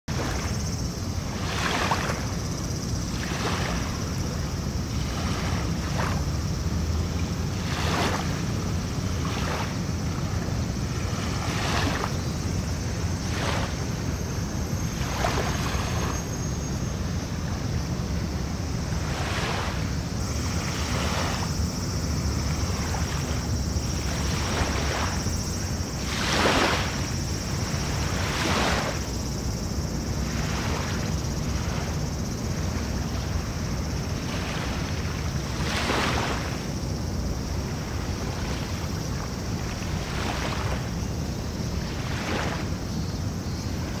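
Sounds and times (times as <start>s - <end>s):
small waves lapping on beach: 0.1s - 44.0s.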